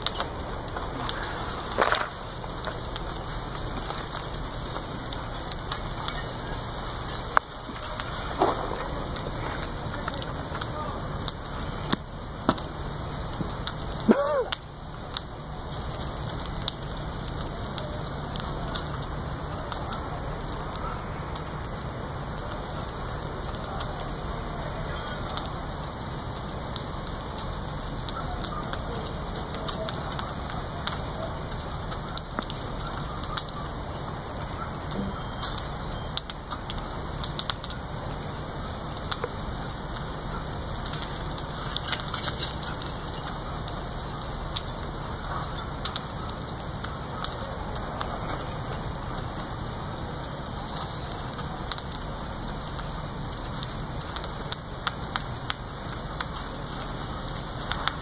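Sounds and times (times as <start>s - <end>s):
fire rushing and crackling: 0.0s - 58.0s.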